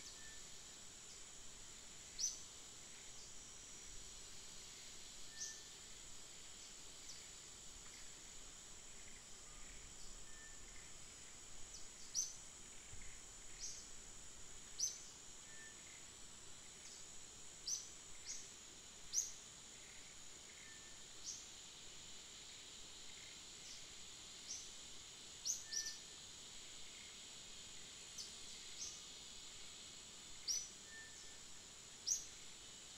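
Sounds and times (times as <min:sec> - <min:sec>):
high-pitched insect drone: 0:00.0 - 0:14.0, 0:14.6 - 0:32.9.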